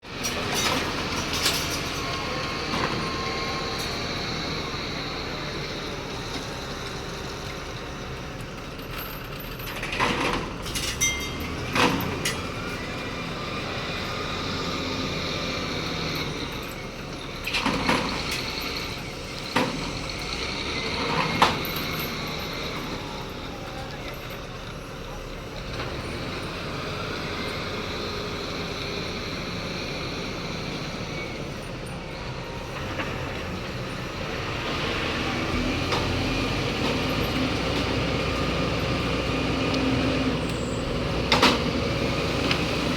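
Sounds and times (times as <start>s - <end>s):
diesel construction machinery running: 0.0s - 42.9s.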